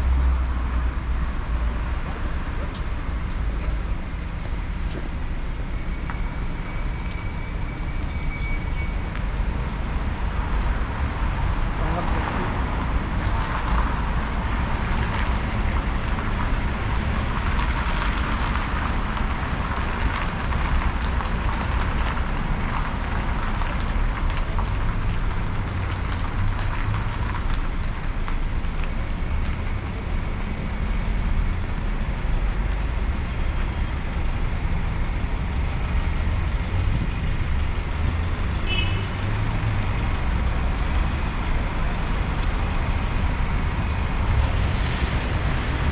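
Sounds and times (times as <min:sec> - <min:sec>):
traffic rumble: 0:00.0 - 0:45.9.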